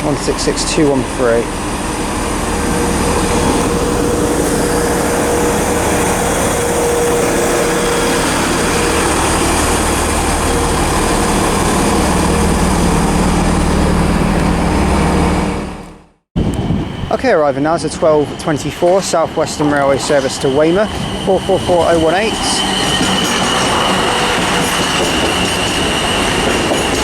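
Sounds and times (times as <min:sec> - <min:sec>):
steady high whine: 0:00.0 - 0:26.2
diesel train engines running: 0:00.0 - 0:27.0
wheel and rail noise: 0:00.0 - 0:27.0.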